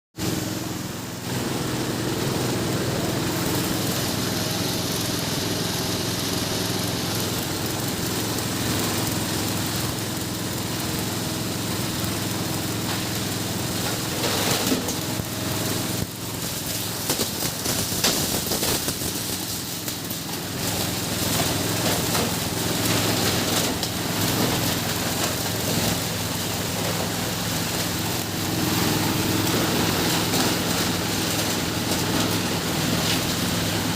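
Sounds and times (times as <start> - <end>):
diesel engine drone: 0.2 - 33.9
machine parts knocking and rattling: 3.3 - 33.9.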